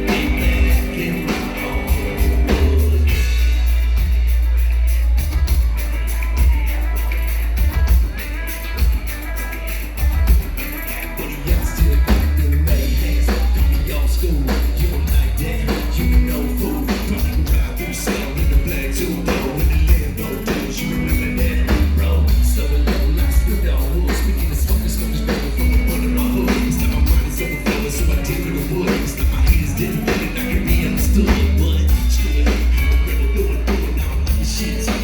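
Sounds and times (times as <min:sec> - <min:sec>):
drum kit beat: 0:00.0 - 0:35.0
guitar: 0:00.0 - 0:35.0
heavy bass: 0:00.0 - 0:35.0.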